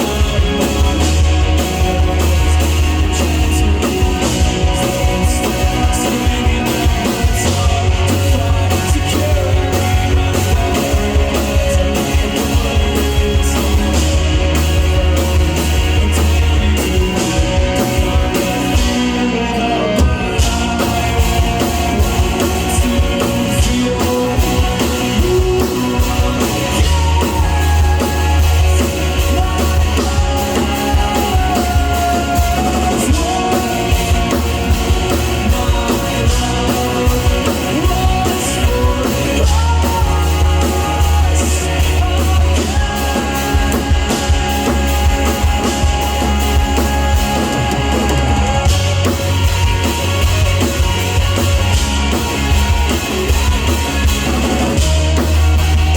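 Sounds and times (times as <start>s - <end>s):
drum kit: 0.0s - 55.9s
heavy bass and guitar: 0.0s - 55.9s
person singing: 0.0s - 55.9s.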